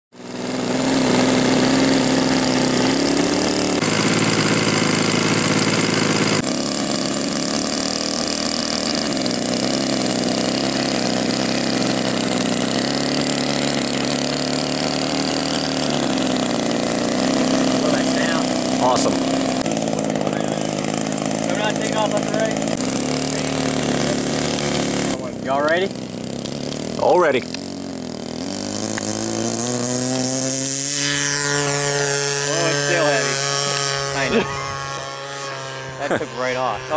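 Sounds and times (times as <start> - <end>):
model airplane engine buzzing: 0.1 - 36.9.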